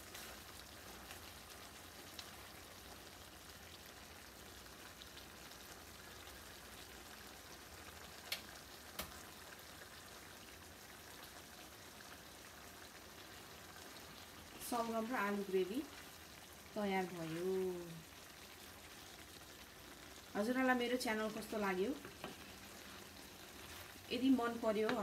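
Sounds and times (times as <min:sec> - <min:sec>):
curry sizzling in a pan: 0:00.0 - 0:25.0.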